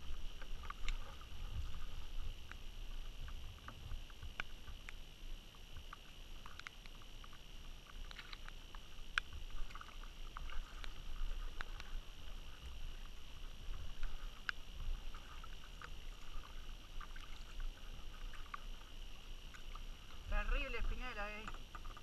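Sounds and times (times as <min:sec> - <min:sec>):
wind rumble on microphone: 0:00.0 - 0:06.0, 0:08.6 - 0:22.0
steady high hiss: 0:00.0 - 0:22.0
water splashing against kayak: 0:00.0 - 0:22.0.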